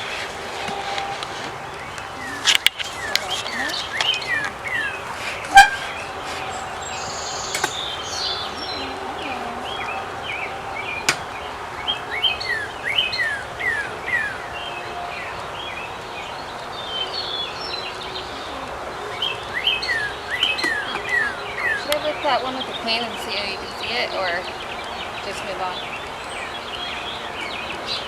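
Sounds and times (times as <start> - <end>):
outdoor background noise: 0.0 - 28.0
songbirds chirping: 0.0 - 28.0.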